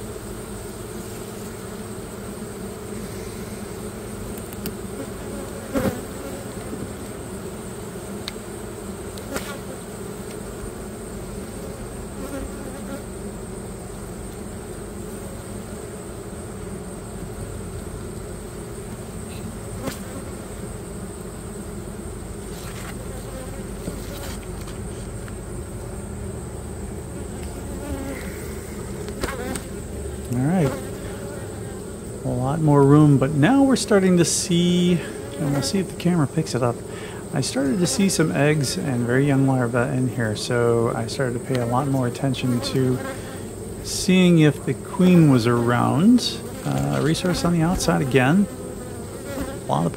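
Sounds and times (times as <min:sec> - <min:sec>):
honey bees buzzing: 0:00.0 - 0:49.9.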